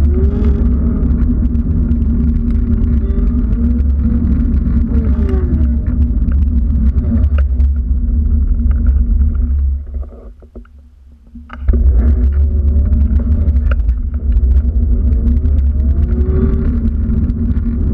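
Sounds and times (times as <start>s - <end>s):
wind buffeting microphone: 0.0s - 10.0s, 11.6s - 17.9s.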